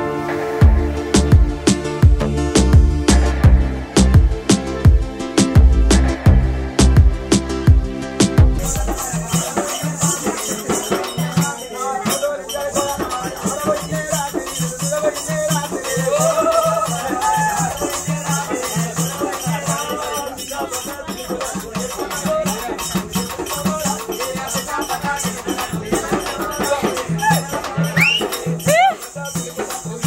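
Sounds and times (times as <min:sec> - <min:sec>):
voices in music: 0:00.0 - 0:30.0
music with shaker rhythm: 0:00.6 - 0:30.0.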